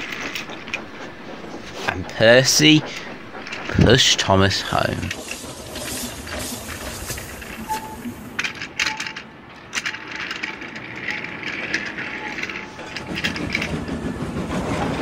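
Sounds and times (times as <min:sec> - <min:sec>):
toy trains on plastic track: 0:00.0 - 0:00.9, 0:01.6 - 0:15.0.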